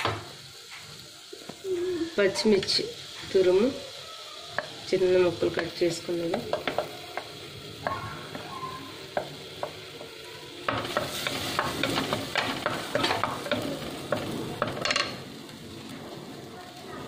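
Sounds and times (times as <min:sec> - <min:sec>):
chilli sizzling in cream: 0:00.0 - 0:17.0.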